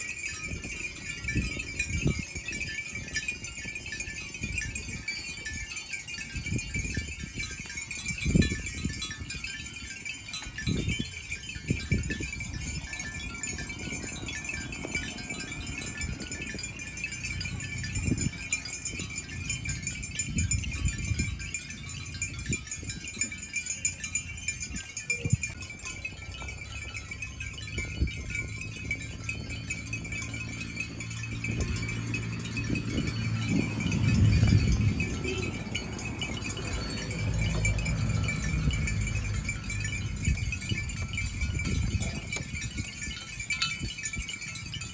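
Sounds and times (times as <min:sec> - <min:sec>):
animal bells jingling: 0:00.0 - 0:44.9.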